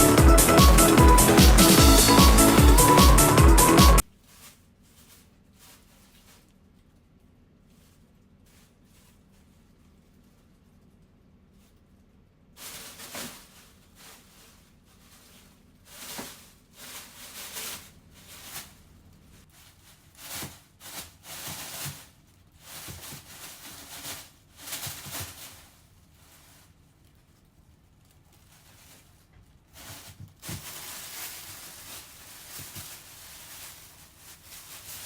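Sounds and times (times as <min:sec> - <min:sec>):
plastic bags rustling: 0:00.0 - 0:35.0.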